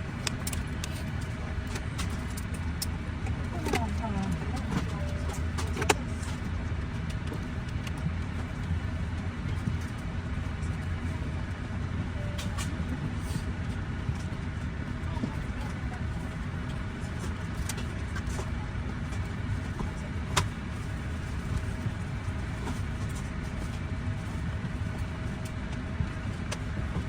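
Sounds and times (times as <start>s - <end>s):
aircraft cabin ventilation drone: 0.0s - 27.0s
faint passenger voices: 0.0s - 27.0s.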